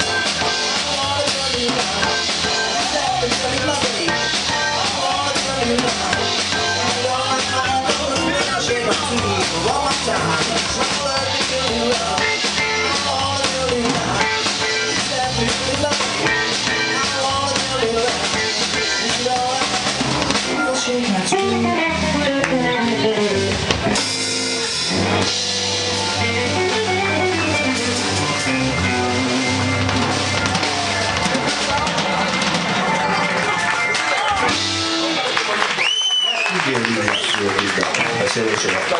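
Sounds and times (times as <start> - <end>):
electric guitar lead: 0.0 - 35.9
bass: 0.0 - 38.9
drum kit: 0.0 - 38.9.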